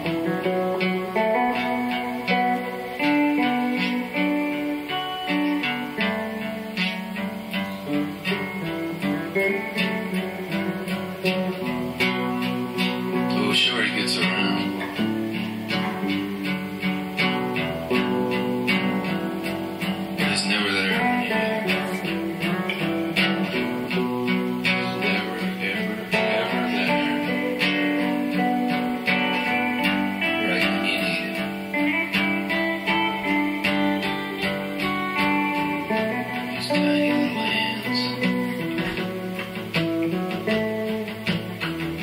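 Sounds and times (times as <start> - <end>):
held instrumental notes: 0.0 - 42.0
strummed string instrument: 0.0 - 42.0.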